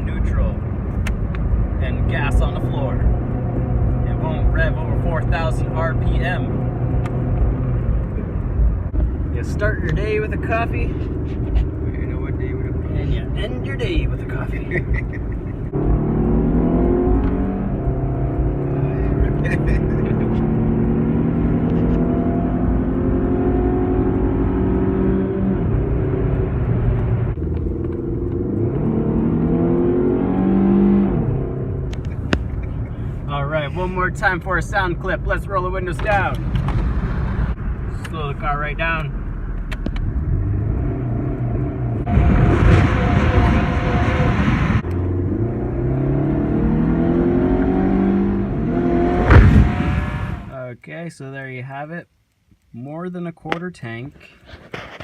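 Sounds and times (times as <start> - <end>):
car engine through loud exhaust: 0.0 - 50.6.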